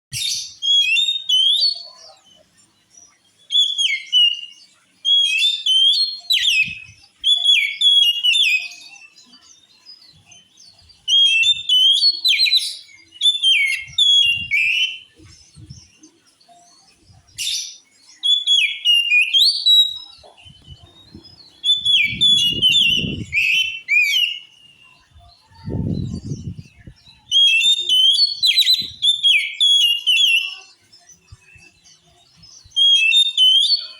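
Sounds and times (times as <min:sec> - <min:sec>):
bird singing whistled notes: 0:00.1 - 0:02.2, 0:03.1 - 0:33.9.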